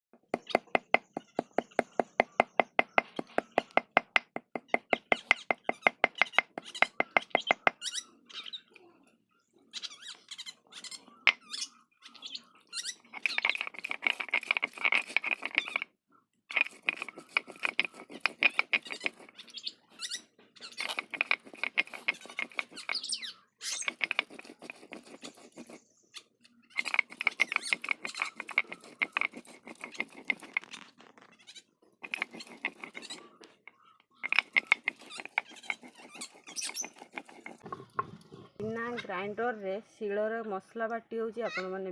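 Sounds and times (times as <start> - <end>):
stone grating on stone: 0.3 - 8.6, 10.3 - 15.9, 16.5 - 38.9.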